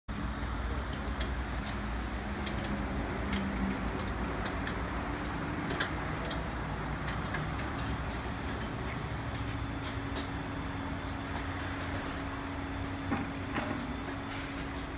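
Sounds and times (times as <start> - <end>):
car wash machinery humming: 0.1 - 14.9.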